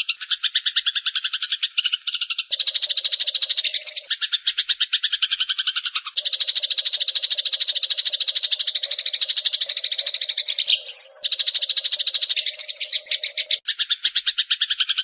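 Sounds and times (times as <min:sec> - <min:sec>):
sparrows chattering: 0:00.0 - 0:15.0.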